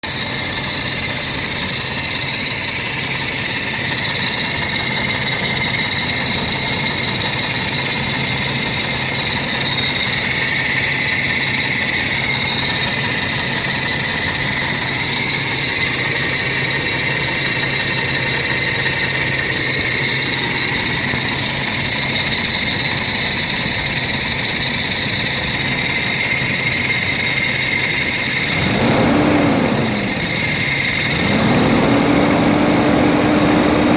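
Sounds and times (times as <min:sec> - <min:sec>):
car engine idling: 0:00.0 - 0:33.9
engine revving: 0:00.0 - 0:33.9
high-pitched whine: 0:00.0 - 0:33.9.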